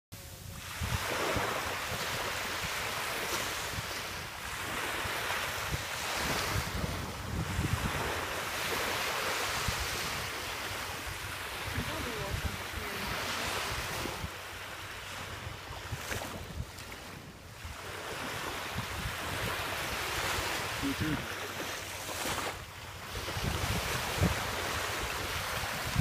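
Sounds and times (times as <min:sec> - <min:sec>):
wind buffeting microphone: 0:00.2 - 0:21.2, 0:22.2 - 0:26.0
ocean surf breaking: 0:00.2 - 0:26.0.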